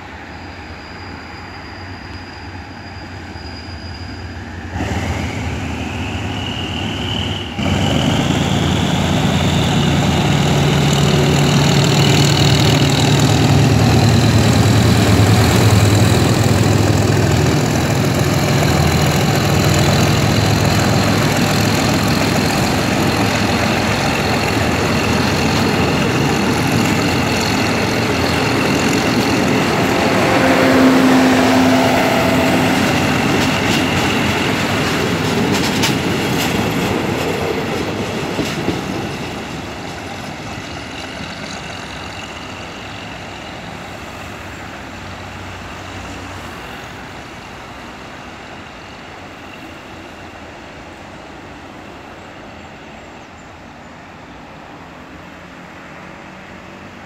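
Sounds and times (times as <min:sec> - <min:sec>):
diesel locomotive engine droning: 0:00.0 - 0:57.0
train coaches rolling on rails: 0:00.0 - 0:57.0.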